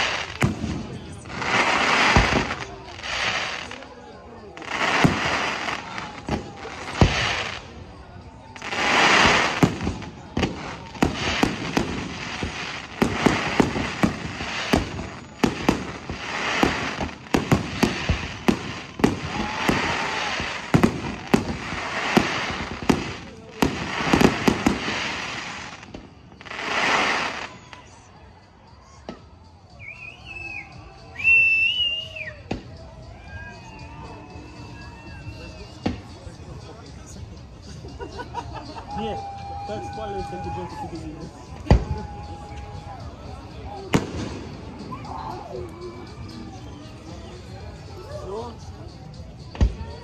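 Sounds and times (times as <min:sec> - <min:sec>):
fireworks bangs and crackling: 0:00.0 - 0:28.3, 0:31.2 - 0:33.0, 0:33.6 - 0:37.1, 0:38.9 - 0:48.0, 0:48.6 - 0:50.0.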